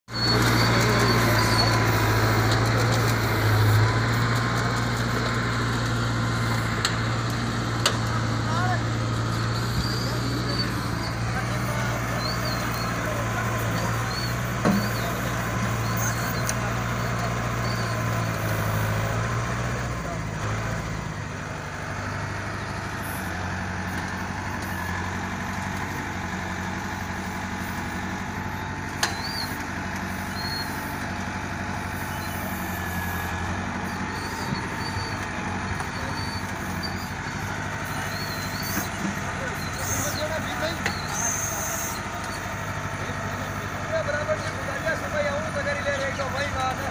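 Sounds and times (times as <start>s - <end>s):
backhoe engine running: 0.0s - 46.9s.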